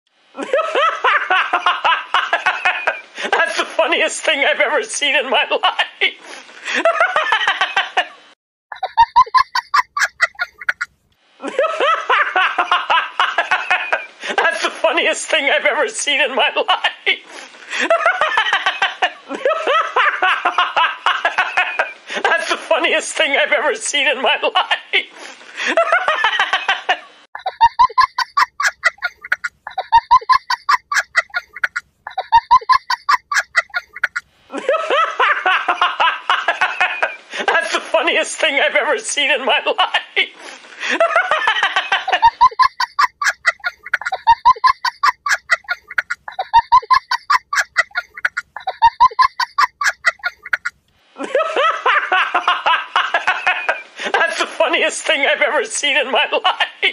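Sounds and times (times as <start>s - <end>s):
hearty laughter: 0.4s - 22.8s, 23.4s - 54.7s.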